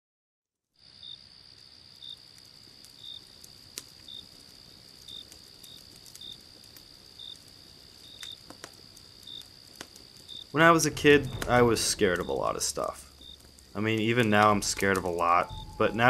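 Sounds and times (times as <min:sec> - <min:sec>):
cricket chirps: 0:00.8 - 0:16.0
high insect trill: 0:00.8 - 0:16.0.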